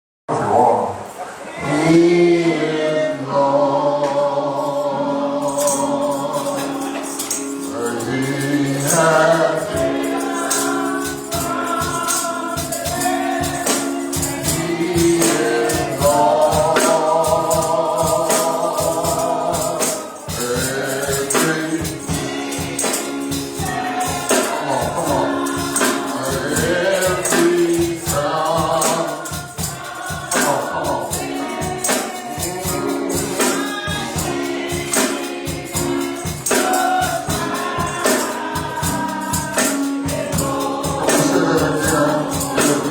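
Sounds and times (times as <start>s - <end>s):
choir singing gospel: 0.4s - 42.9s
tambourine shaken and struck: 5.4s - 42.9s.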